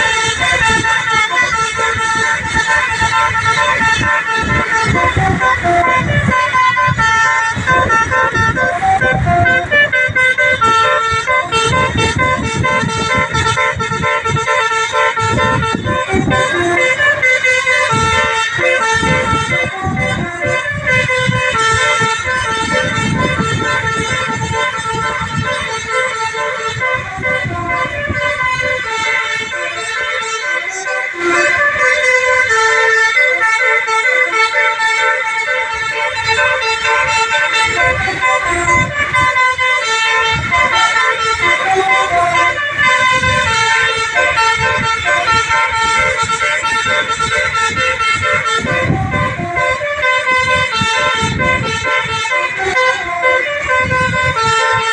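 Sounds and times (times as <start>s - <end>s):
low rumble of bus on road: 0.0s - 54.9s
musical bus horn playing a tune: 0.0s - 54.9s.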